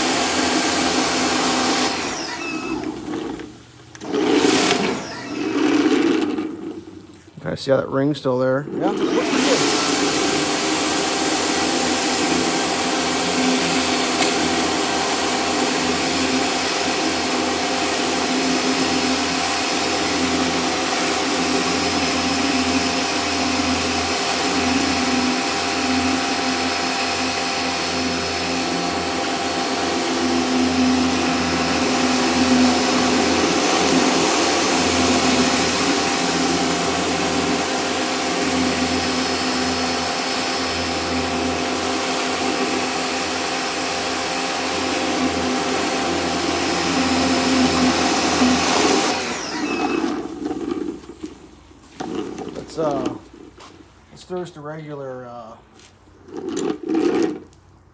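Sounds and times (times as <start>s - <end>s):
pressure washer motor whine: 0.0s - 7.0s, 8.7s - 53.3s.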